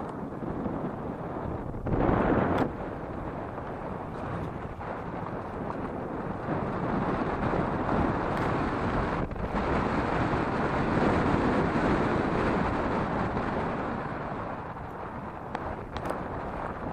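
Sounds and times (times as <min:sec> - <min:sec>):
tyre and road noise: 0:00.0 - 0:16.9
wind rushing over camera: 0:00.0 - 0:16.9.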